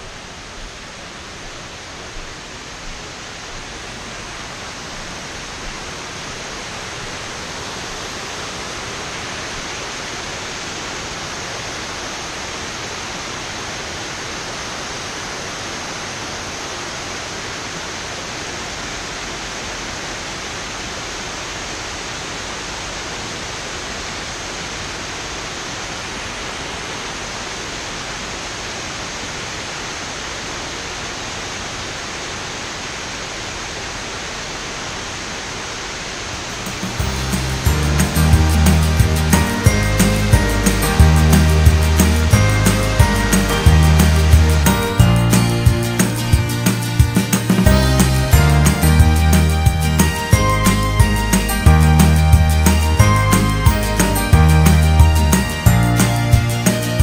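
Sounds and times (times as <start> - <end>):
waterfall rushing water: 0.0 - 57.0.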